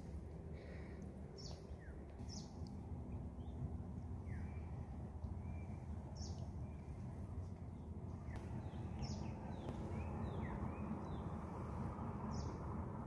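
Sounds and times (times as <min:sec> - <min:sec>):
steady low rumble: 0:00.0 - 0:13.0
wild birds chirping: 0:00.0 - 0:13.0.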